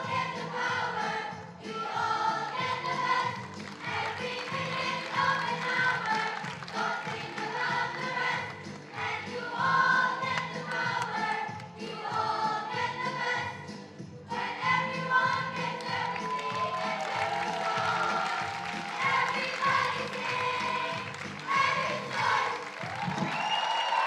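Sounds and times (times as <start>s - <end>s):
children's choir singing: 0.0s - 23.4s.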